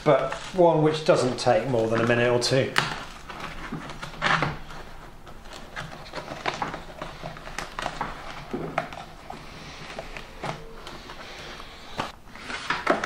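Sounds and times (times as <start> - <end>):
foam rubbing: 0.0 - 12.7.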